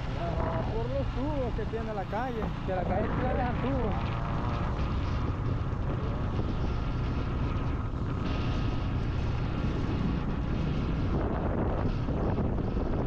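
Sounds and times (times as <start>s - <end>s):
vehicle moving along road: 0.0s - 13.0s
wind rumbling on microphone: 0.0s - 13.0s.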